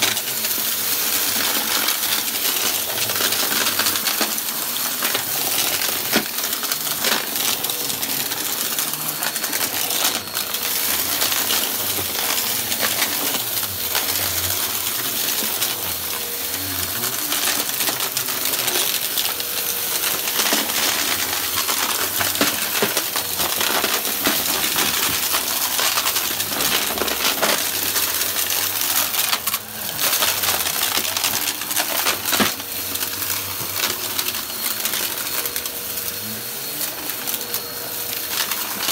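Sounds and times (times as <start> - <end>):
debris rattling in vacuum: 0.0 - 38.9
vacuum cleaner on carpet: 0.0 - 38.9.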